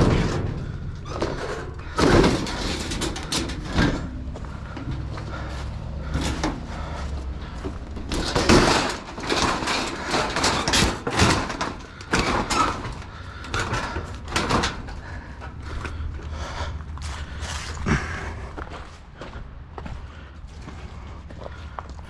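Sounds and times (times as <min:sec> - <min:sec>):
scrap metal knocking and scraping: 0:00.0 - 0:18.4.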